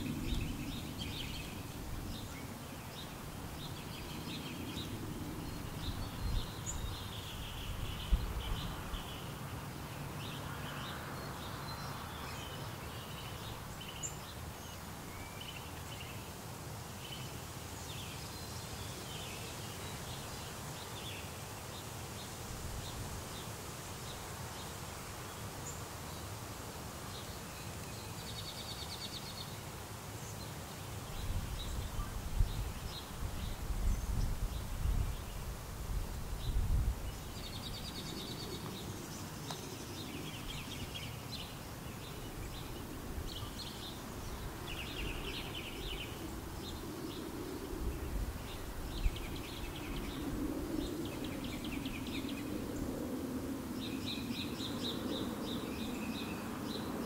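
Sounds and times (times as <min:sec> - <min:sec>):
small birds chirping: 0:00.0 - 0:16.3, 0:27.0 - 0:57.0
steady hiss: 0:00.0 - 0:57.0.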